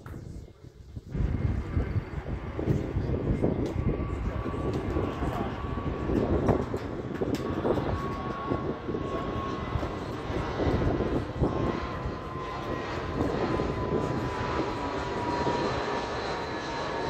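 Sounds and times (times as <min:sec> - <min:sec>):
jet airliner flying overhead: 0:00.0 - 0:17.0.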